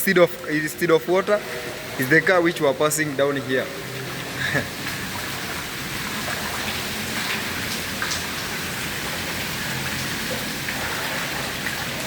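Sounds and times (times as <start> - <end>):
water drops ticking: 0.0 - 12.0
water hissing: 0.8 - 12.0.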